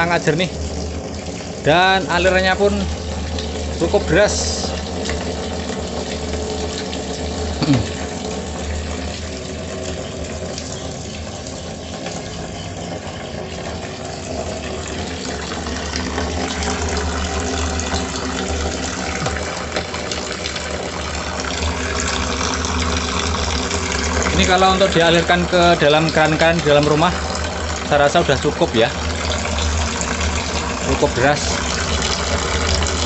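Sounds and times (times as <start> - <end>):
water pouring into a drum: 0.0 - 33.0.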